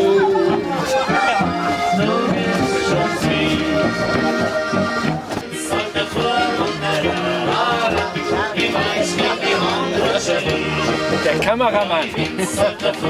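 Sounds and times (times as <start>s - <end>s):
accordion folk dance music: 0.0s - 13.0s.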